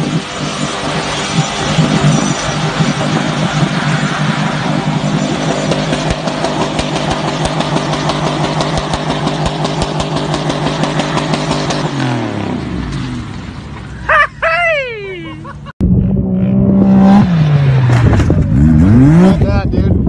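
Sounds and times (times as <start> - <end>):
truck engine revving: 0.0 - 13.7, 15.4 - 20.0.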